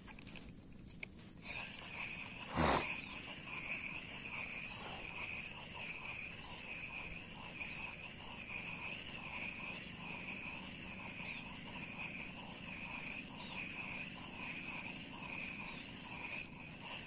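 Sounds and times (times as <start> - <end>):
insects trilling: 1.5 - 17.0.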